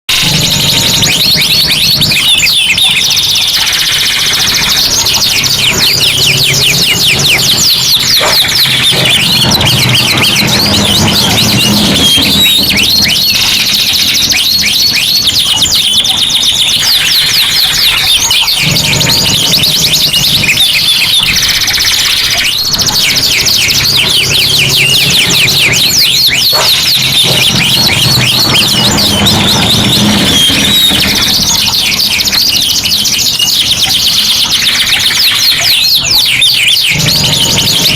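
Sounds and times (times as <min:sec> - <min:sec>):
canaries singing trills: 0:00.1 - 0:37.9.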